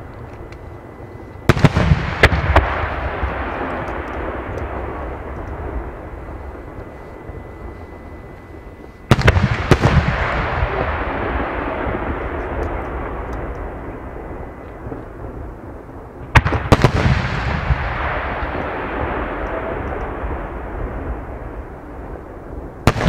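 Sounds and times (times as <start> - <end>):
echoing rumble: 0.0 - 23.0
fireworks bangs: 1.4 - 15.6, 16.2 - 23.0.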